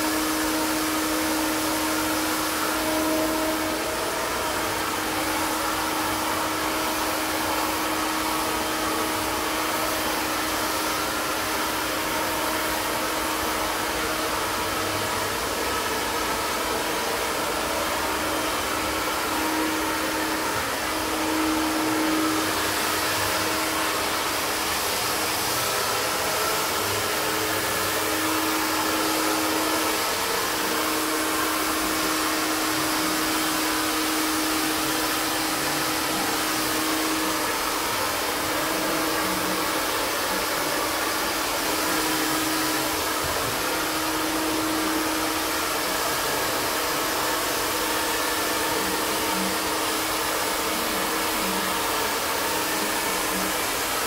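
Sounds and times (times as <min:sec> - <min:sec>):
handheld blower fan rushing: 0:00.0 - 0:54.0.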